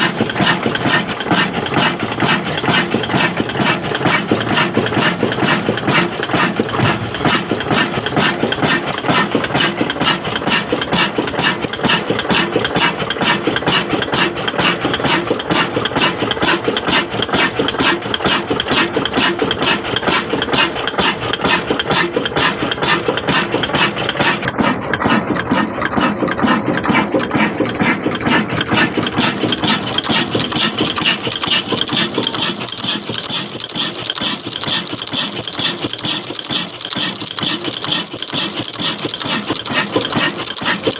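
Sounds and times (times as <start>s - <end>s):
diesel engine running: 0.0s - 33.8s.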